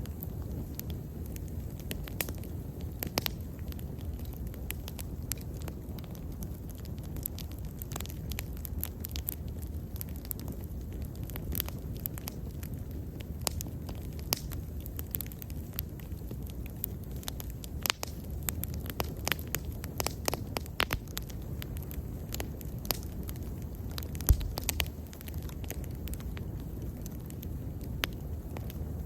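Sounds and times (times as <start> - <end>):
bonfire rumbling: 0.0 - 29.0
fire crackling and popping: 0.0 - 29.0.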